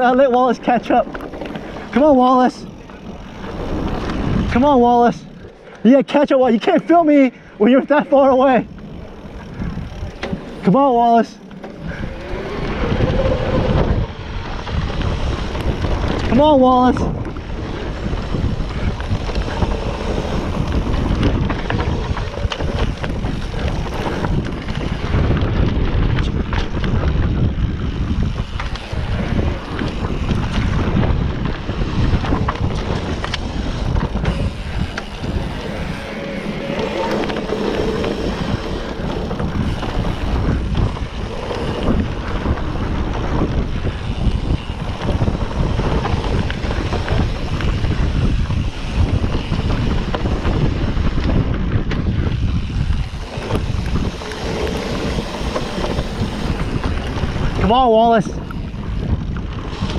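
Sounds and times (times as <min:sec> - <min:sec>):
bike rattling over bumps: 0:00.0 - 0:59.9
mountain bike on dirt trail: 0:00.0 - 0:59.9
wind buffeting microphone: 0:00.0 - 0:59.9.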